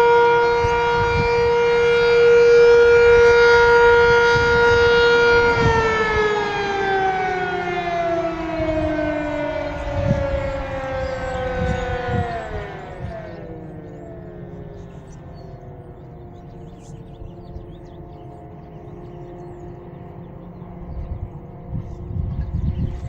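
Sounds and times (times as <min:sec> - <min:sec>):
warning siren winding down: 0:00.0 - 0:23.0.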